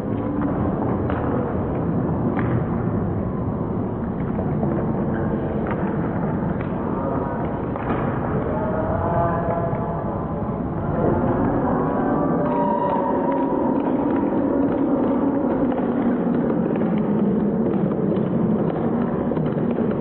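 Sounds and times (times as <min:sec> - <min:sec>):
hockey sticks knocking ball: 0:00.0 - 0:08.7, 0:12.5 - 0:20.0.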